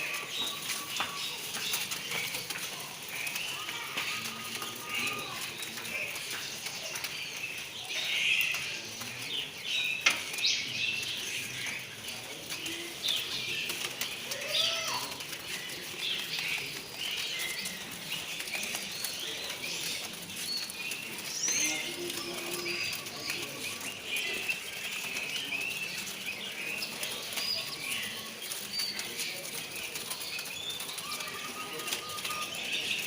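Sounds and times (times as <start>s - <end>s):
songbirds chirping and whistling: 0.0s - 33.0s.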